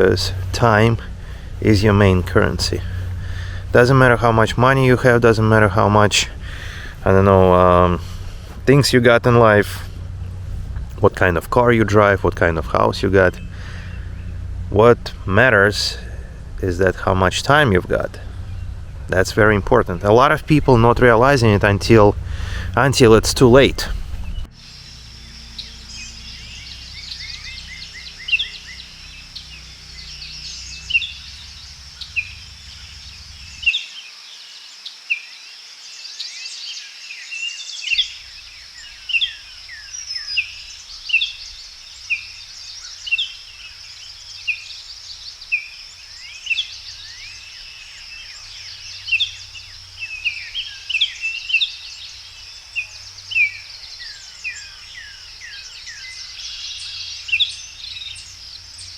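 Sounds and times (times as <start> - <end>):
birds chirping: 0.0 - 58.9
insects droning: 0.0 - 58.9.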